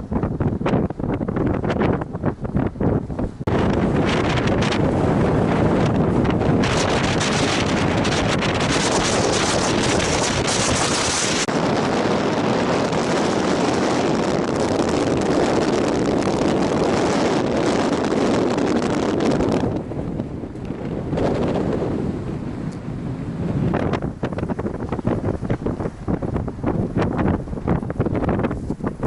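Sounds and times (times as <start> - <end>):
strong wind on microphone: 0.0 - 29.0.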